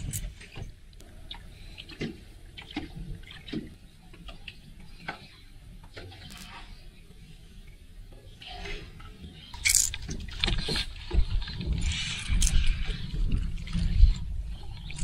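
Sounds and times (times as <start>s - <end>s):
small waves slapping boat hull: 0.0s - 15.0s.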